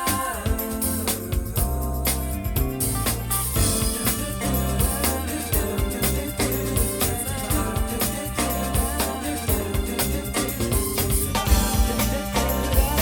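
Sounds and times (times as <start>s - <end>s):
instrumental music with drum beat: 0.0s - 13.0s.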